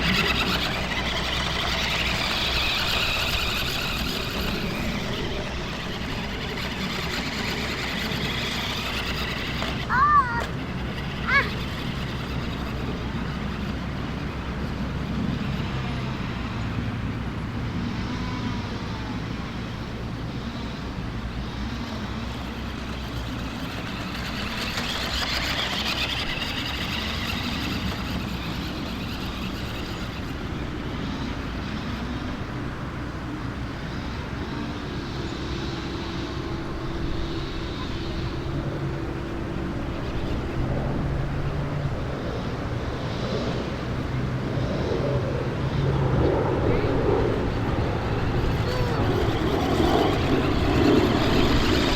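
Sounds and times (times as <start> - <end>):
toy truck motor whirring: 0.0 - 51.9.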